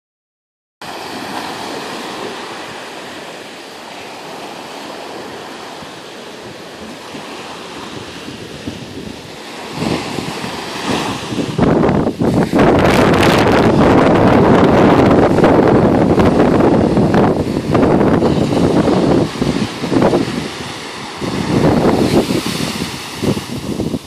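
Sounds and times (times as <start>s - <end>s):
small waves washing on sand: 0.8s - 24.0s
wind buffeting microphone: 0.9s - 24.0s.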